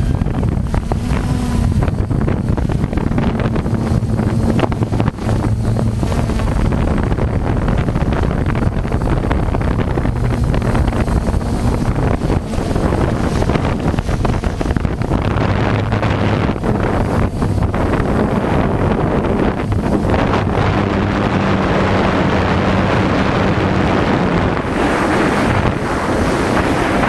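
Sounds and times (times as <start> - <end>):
low motor hum: 0.0 - 27.0
wind buffeting microphone: 0.0 - 27.0.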